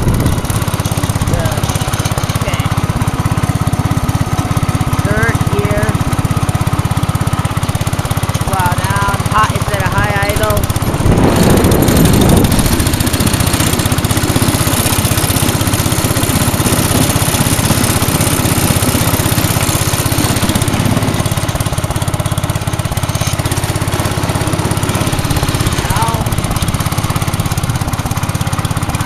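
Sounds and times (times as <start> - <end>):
garden tractor engine running: 0.0 - 29.0.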